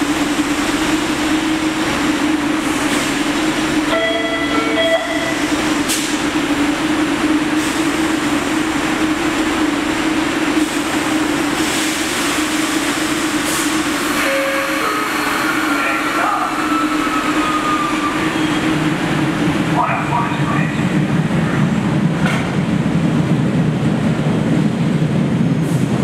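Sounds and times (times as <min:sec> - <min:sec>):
subway car equipment hum: 0:00.0 - 0:26.0.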